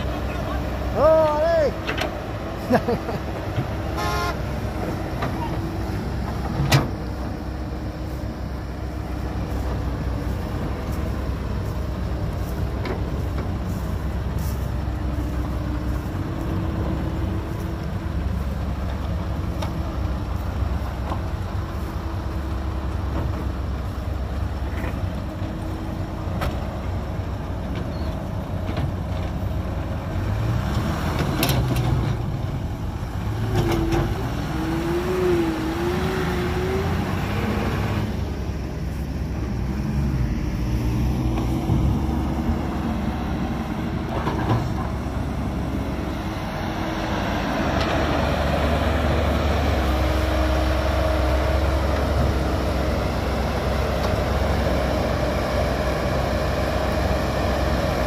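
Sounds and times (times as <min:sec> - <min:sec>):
diesel machinery running: 0:00.0 - 0:58.0.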